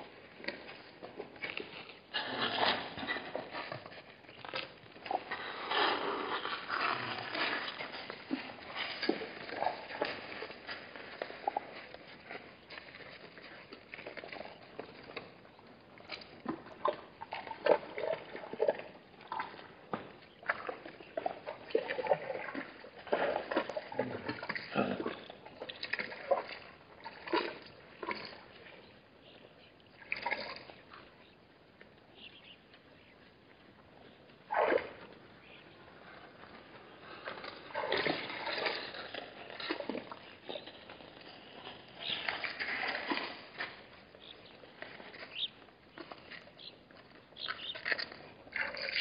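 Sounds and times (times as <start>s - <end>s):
water sloshing and splashing: 0.0s - 28.9s, 29.8s - 31.3s, 34.4s - 49.0s.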